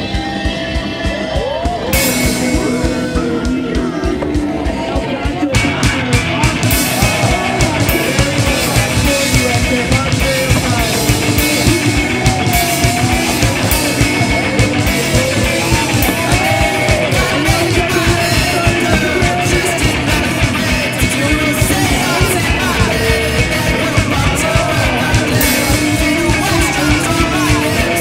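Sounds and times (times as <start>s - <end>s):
fast drum beat: 0.0s - 28.0s
person singing: 0.0s - 28.0s
punk rock music: 0.0s - 28.0s.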